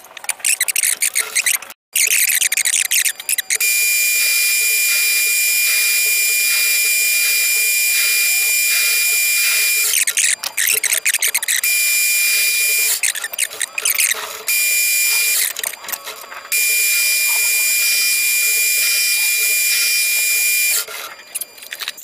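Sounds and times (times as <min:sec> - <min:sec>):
high thin whine: 0:03.5 - 0:21.4
metal lathe boring bar hissing: 0:03.5 - 0:21.4.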